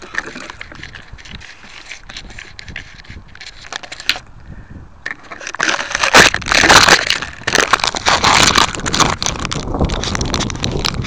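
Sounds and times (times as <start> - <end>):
rustling crackling microphone noise: 0.0 - 11.0.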